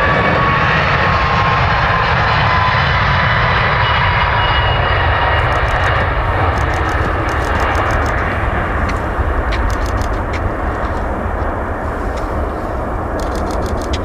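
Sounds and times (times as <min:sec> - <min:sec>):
jet engines rushing: 0:00.0 - 0:14.0
thin jet engine whine: 0:00.0 - 0:14.0.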